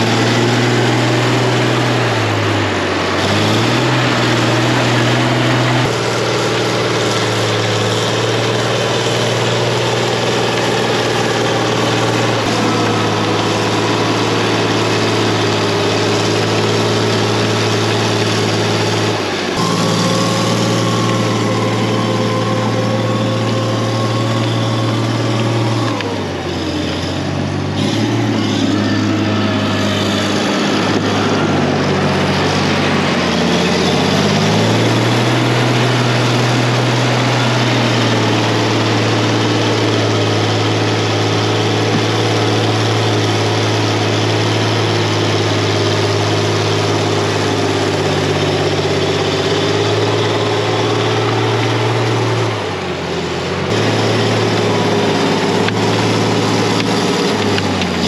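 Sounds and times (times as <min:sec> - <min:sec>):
large vehicle engine running: 0:00.0 - 0:58.0.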